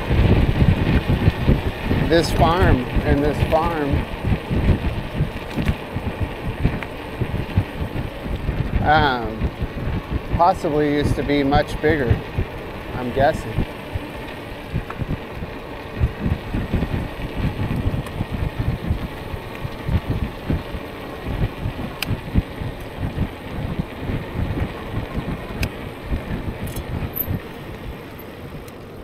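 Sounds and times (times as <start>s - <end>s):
wind noise on microphone: 0.0s - 28.7s.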